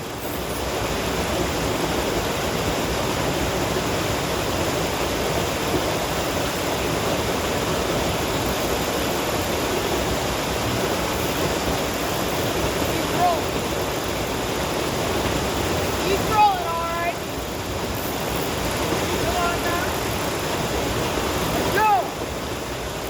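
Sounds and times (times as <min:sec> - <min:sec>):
water pouring over spillway: 0:00.0 - 0:23.0.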